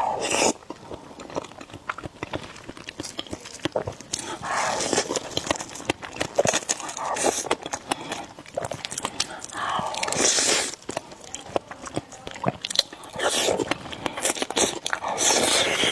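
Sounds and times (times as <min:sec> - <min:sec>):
noodle slurping: 0:00.0 - 0:15.9
wet chewing: 0:00.0 - 0:15.9.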